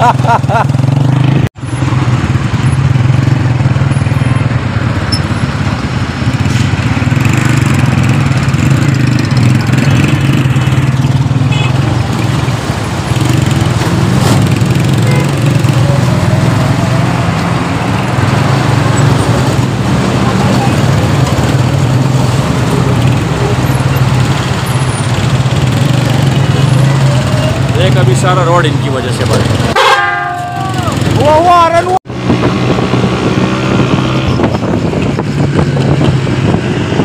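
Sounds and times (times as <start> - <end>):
traffic hum: 0.0 - 37.0.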